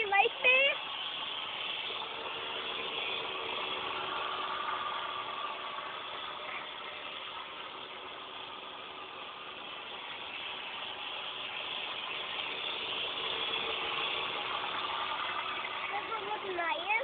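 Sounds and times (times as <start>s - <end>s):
toy boat motor running: 0.0s - 17.0s.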